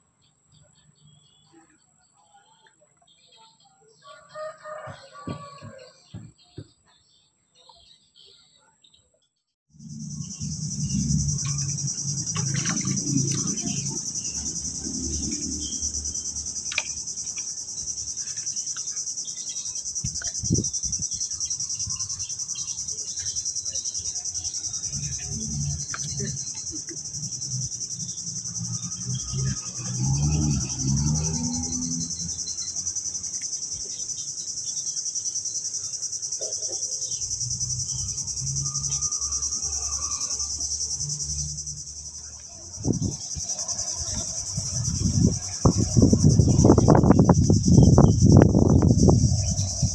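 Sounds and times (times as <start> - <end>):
insects chirring: 9.7 - 49.9.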